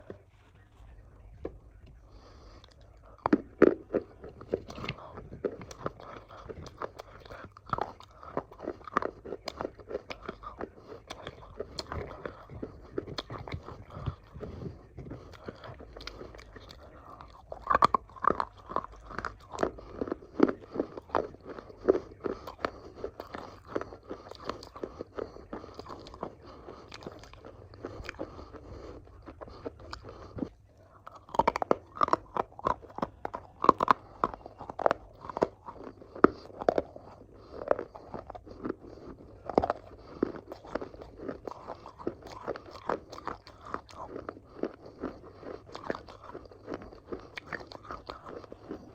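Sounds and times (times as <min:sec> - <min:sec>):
crunchy food being chewed: 0:00.0 - 0:48.9.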